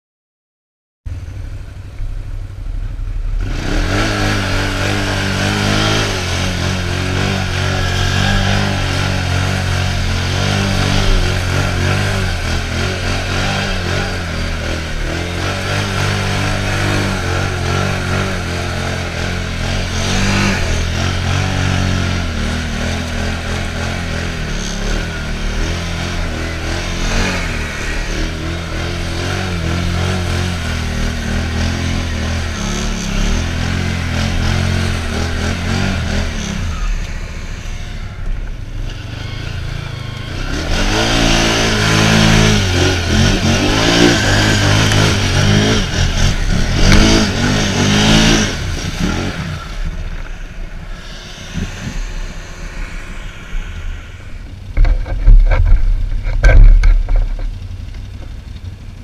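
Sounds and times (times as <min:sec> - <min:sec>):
atv engine running hard: 0:01.1 - 0:59.0.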